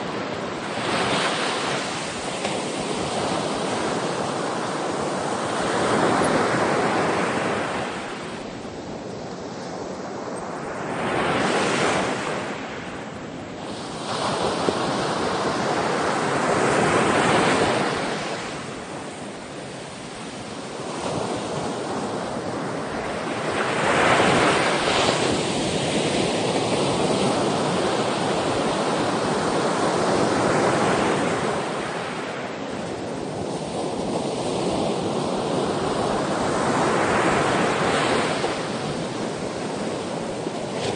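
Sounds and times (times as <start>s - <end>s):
ocean waves breaking on shore: 0.0s - 40.9s
wind noise on microphone: 0.0s - 40.9s.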